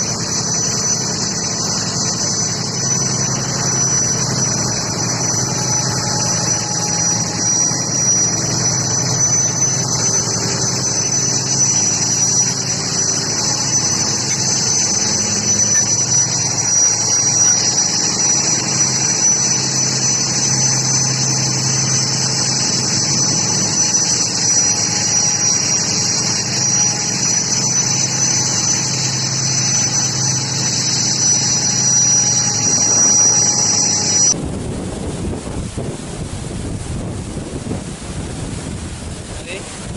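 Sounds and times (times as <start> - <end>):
boat engine running: 0.0 - 39.9
high-pitched whine: 0.0 - 39.9.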